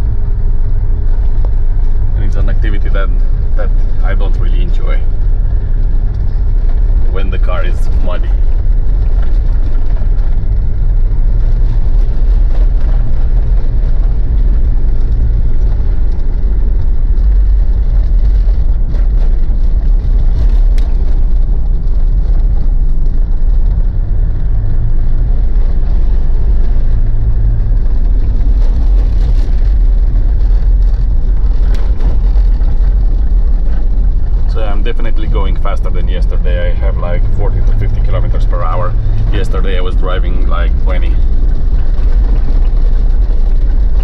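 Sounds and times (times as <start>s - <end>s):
diesel engine and tyre rumble: 0.0s - 44.0s.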